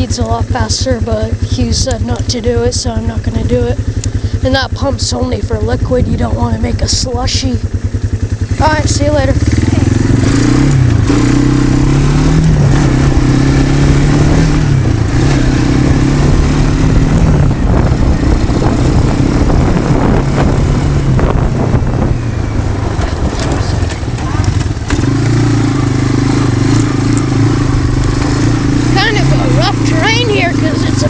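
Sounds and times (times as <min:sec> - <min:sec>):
quad engine revving: 0:00.0 - 0:31.0.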